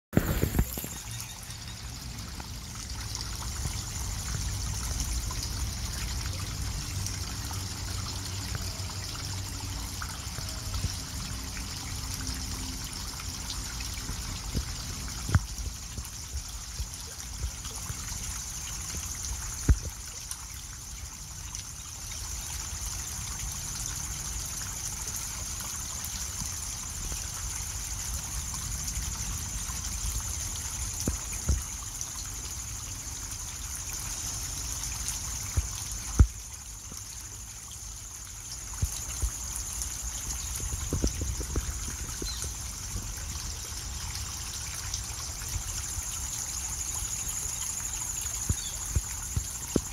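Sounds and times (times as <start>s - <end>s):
fountain water splashing: 0.1s - 49.9s.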